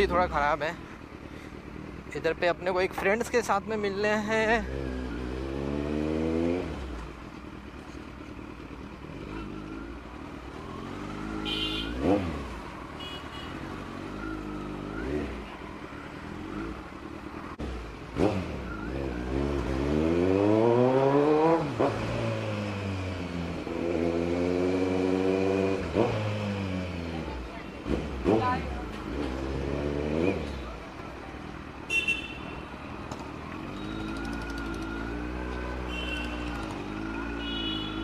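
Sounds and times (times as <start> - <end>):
motorcycle engine revving: 3.0 - 32.0, 33.0 - 38.0.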